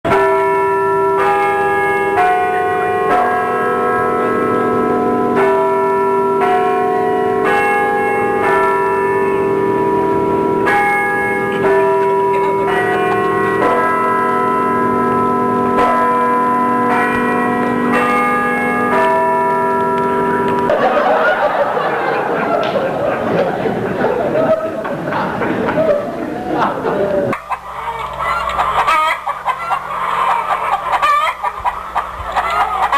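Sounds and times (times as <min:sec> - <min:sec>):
bells ringing: 0:00.1 - 0:25.7, 0:27.6 - 0:32.9.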